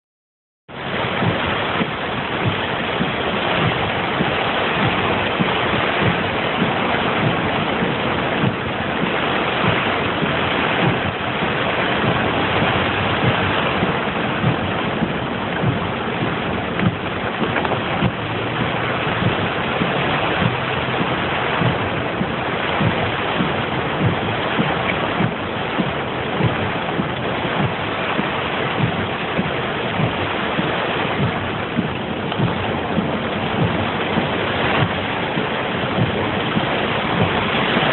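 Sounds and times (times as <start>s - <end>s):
rushing water: 0.7s - 37.9s
short low knocks: 1.1s - 37.9s.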